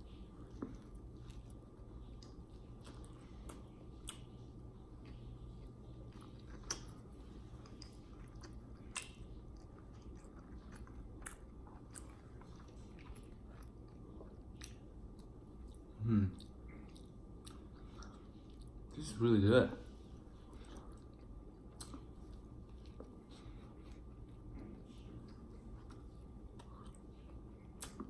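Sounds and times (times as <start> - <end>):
faint chewing: 0.0 - 28.0
low hum: 0.0 - 28.0.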